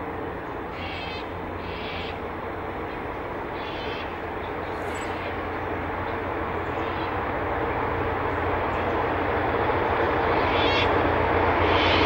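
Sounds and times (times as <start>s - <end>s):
diesel locomotive engines droning: 0.0s - 12.0s.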